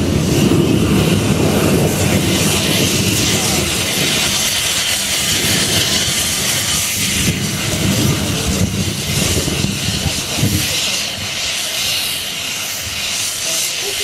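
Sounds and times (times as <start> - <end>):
fuel fire rushing: 0.0 - 14.0
gas venting hiss: 0.0 - 14.0.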